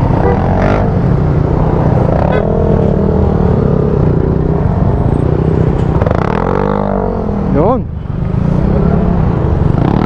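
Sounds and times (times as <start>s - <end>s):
scooter engines rumbling: 0.0s - 10.0s.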